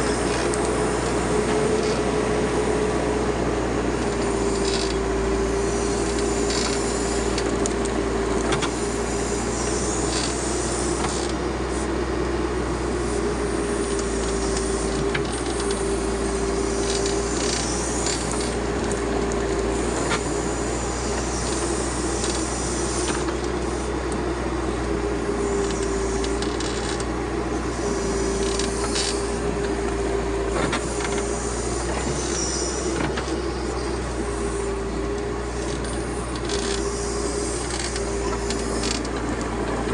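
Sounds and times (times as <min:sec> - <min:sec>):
diesel engine whine: 0:00.0 - 0:39.9.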